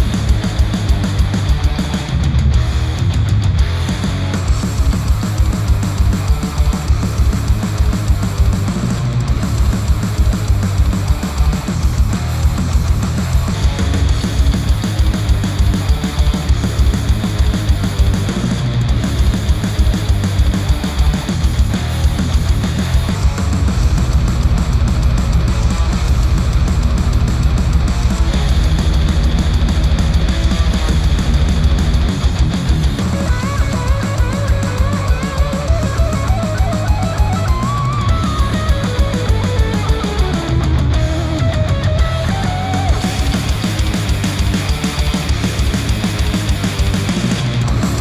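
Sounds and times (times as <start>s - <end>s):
heavy rock music through headphones: 0.0s - 48.0s.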